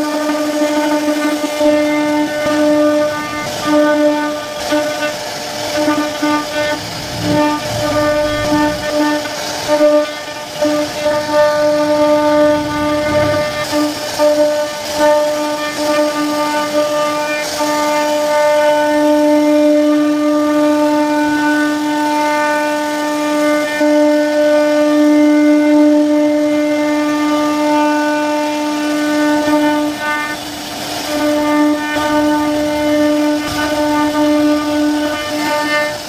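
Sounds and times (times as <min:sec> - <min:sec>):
wood router spindle whine: 0:00.0 - 0:36.0.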